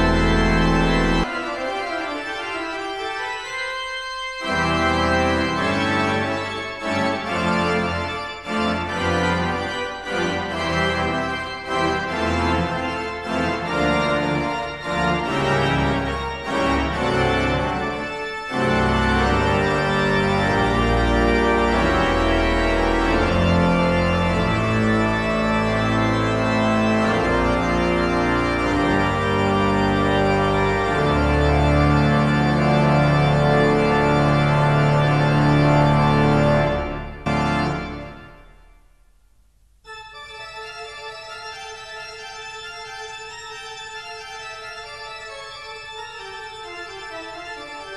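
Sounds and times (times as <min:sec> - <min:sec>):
organ-like keyboard chords: 0:00.0 - 0:47.9.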